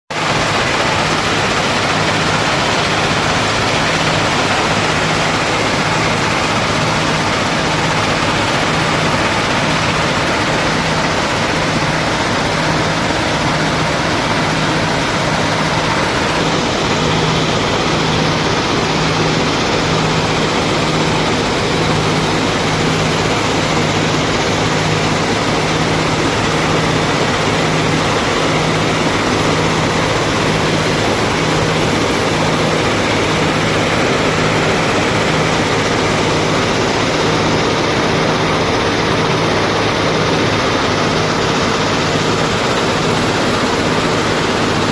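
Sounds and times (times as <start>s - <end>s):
loud machinery noise: 0.1s - 44.9s.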